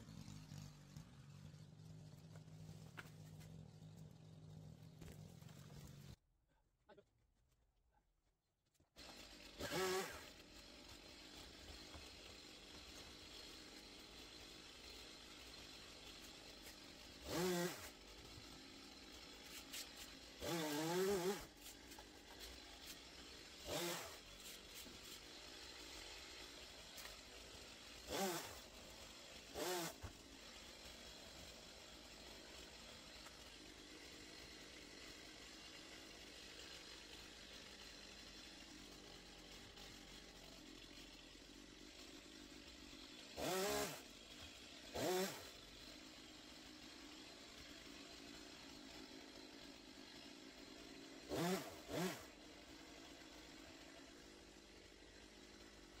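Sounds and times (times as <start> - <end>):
chainsaw revving: 0.0 - 6.2, 9.0 - 56.0.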